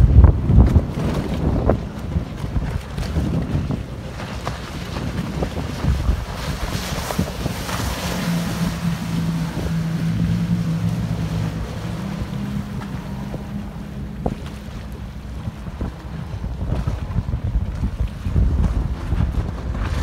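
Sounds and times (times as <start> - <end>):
outboard motors droning: 0.0 - 20.0
wind buffeting microphone: 0.0 - 20.0.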